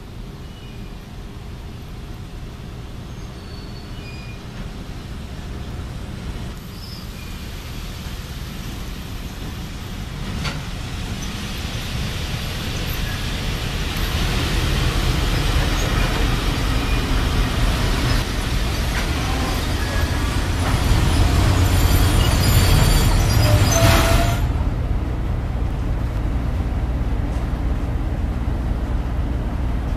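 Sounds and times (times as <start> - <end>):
electric locomotive rumbling: 0.0 - 29.9.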